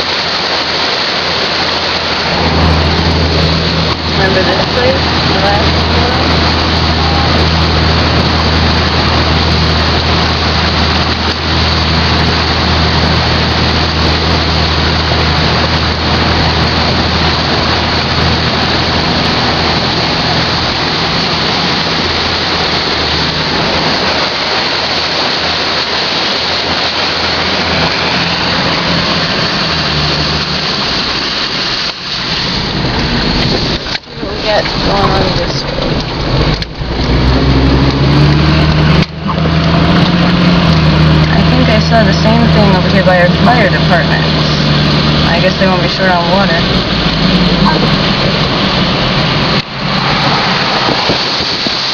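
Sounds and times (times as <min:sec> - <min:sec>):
car engine hum: 0:00.0 - 0:51.9
water spray from car tyres: 0:00.0 - 0:51.9.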